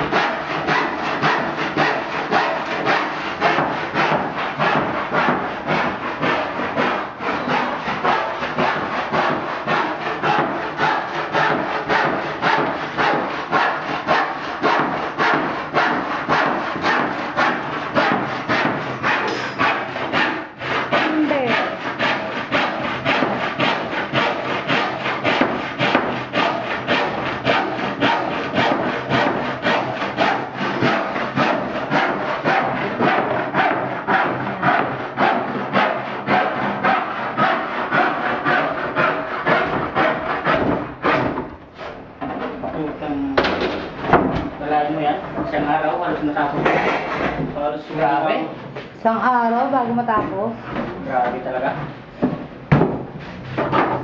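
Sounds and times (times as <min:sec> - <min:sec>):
hand saw cutting wood: 0:00.0 - 0:48.6, 0:53.2 - 0:54.0.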